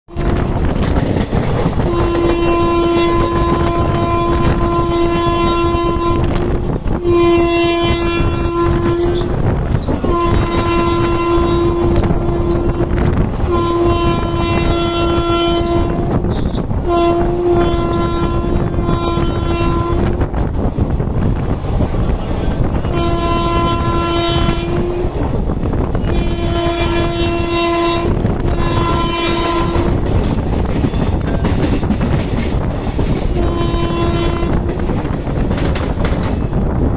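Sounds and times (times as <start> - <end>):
train rumbling and clattering on rails: 0.0 - 36.9
train horn blasts: 0.1 - 20.6, 21.3 - 32.0, 32.9 - 36.7.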